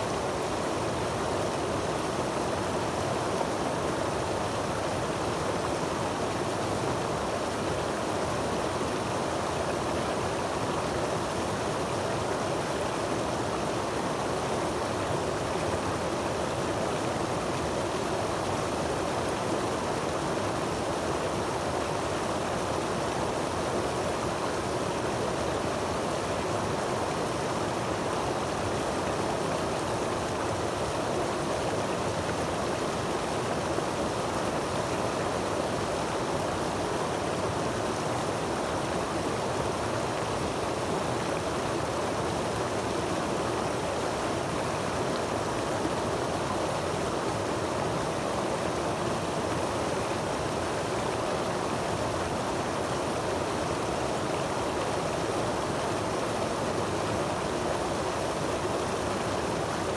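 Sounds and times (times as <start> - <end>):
creek water rushing over rocks: 0.0 - 59.9.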